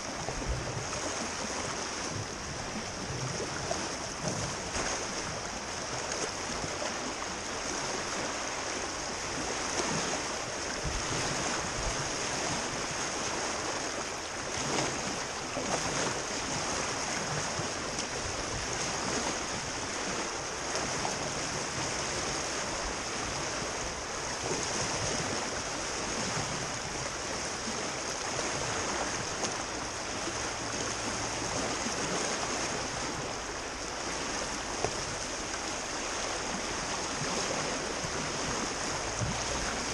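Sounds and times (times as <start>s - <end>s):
water rushing over rapids: 0.0s - 39.9s.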